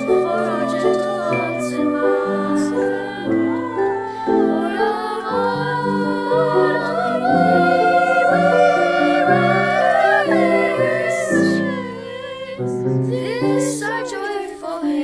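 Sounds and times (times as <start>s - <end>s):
person singing slow melody: 0.0s - 12.9s
instrumental accompaniment: 0.0s - 13.0s.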